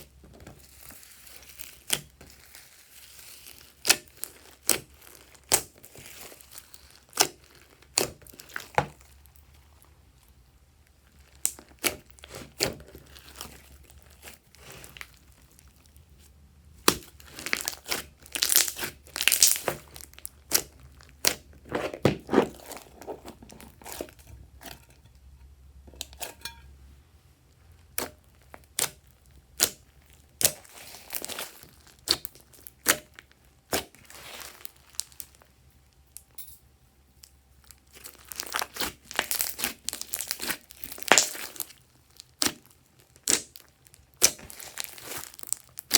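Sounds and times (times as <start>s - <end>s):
slime crackling and popping: 0.0s - 9.9s, 10.9s - 16.0s, 16.8s - 24.3s, 27.9s - 35.5s, 37.7s - 45.9s.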